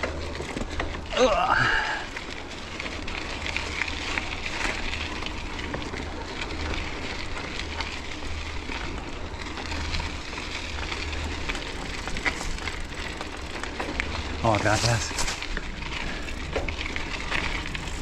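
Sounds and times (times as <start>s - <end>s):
mountain bike tyres rattling: 0.0s - 18.0s.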